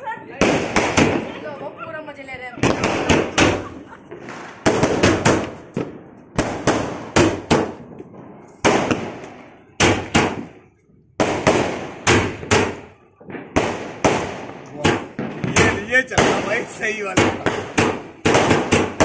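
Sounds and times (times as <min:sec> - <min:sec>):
firework cake bangs: 0:00.3 - 0:01.6, 0:02.6 - 0:19.0.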